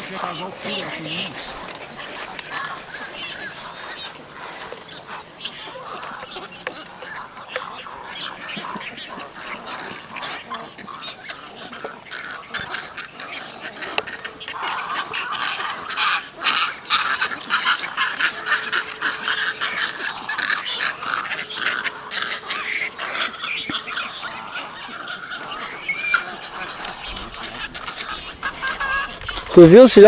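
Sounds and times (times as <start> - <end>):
nesting birds calling: 0.0 - 30.0.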